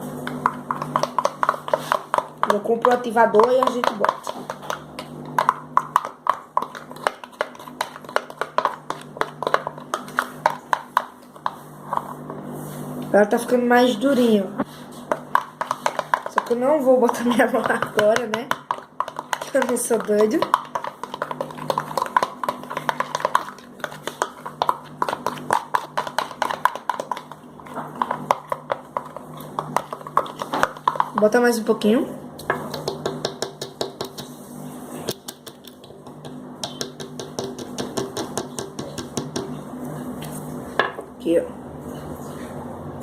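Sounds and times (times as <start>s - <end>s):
stirrer tapping container: 0.0s - 12.2s, 14.9s - 31.6s, 32.4s - 34.4s, 35.0s - 39.6s.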